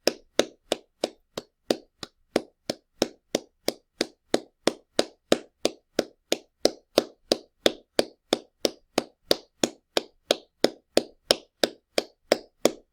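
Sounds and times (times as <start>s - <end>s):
hands clapping: 0.0s - 12.9s.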